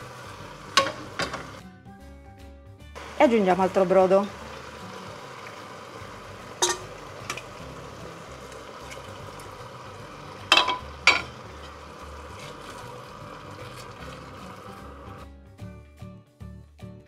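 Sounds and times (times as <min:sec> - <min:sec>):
risotto simmering and sizzling: 0:00.0 - 0:01.6, 0:03.0 - 0:15.2.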